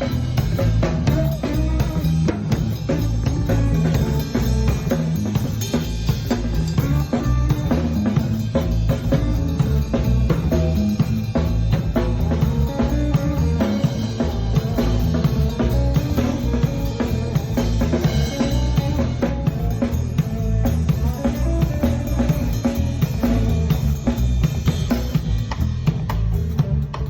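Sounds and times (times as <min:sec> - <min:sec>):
drum kit beat: 0:00.0 - 0:27.0
heavy bass: 0:00.0 - 0:27.0
live band playing: 0:00.0 - 0:27.0.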